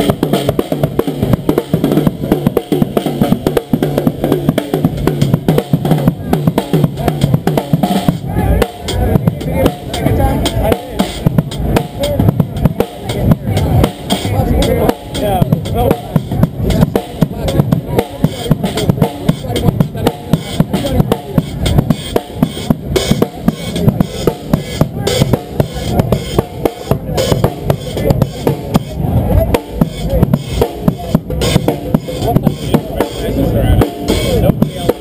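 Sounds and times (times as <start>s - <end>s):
drum kit groove: 0.0s - 35.0s.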